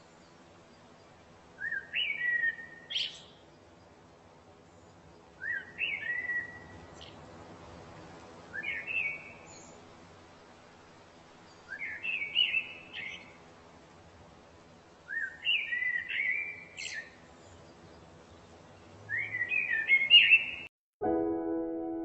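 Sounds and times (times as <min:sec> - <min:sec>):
songbird singing: 0:00.0 - 0:20.7.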